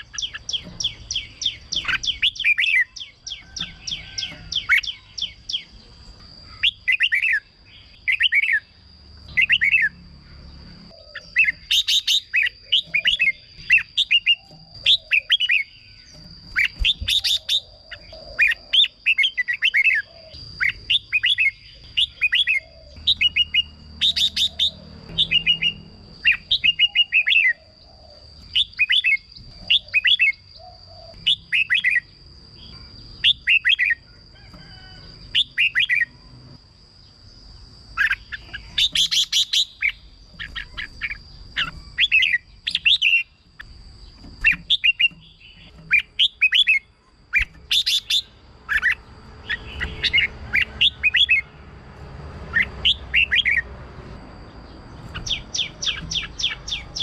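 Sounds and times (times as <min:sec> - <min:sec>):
birds warbling: 0:00.0 - 0:57.0.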